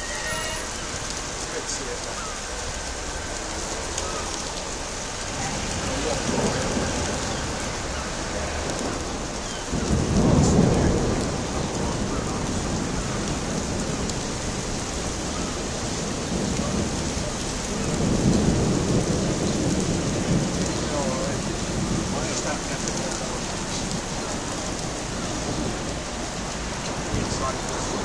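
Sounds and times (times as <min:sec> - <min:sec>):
heavy rain falling: 0:00.0 - 0:28.0
thunder rumbling: 0:00.0 - 0:28.0.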